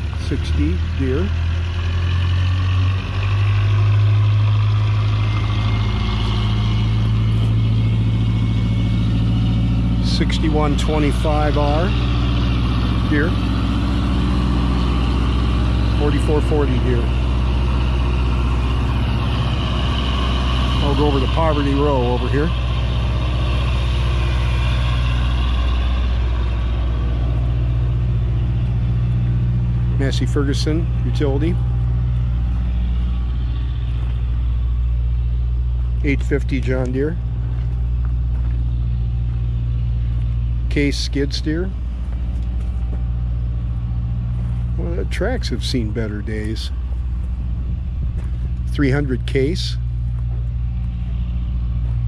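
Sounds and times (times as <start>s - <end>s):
vehicle engine running steadily: 0.0s - 52.0s.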